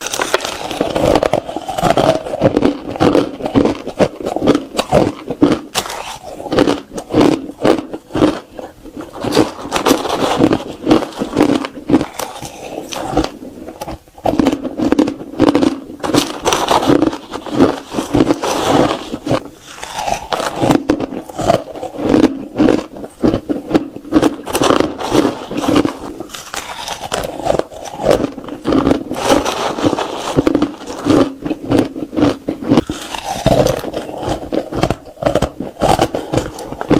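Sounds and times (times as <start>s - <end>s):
person crunching ice: 0.0s - 36.9s.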